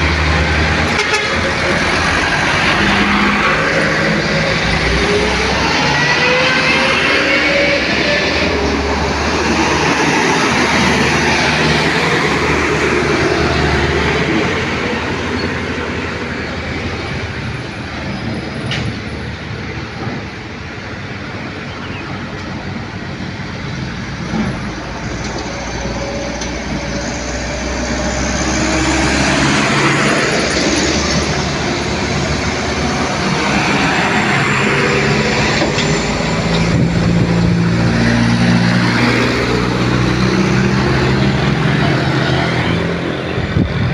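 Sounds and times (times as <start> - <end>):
diesel truck engine drone: 0.0 - 43.9.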